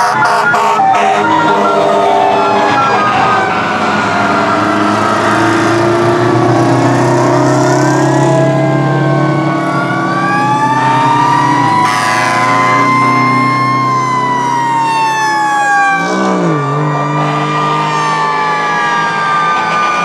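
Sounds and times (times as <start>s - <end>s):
sirens wailing: 0.0s - 20.0s
truck engines driving past: 0.0s - 20.0s.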